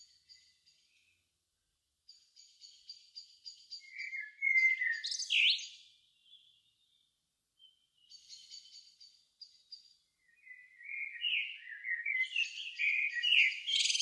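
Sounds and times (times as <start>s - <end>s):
songbirds singing: 0.0s - 1.3s, 2.0s - 14.0s.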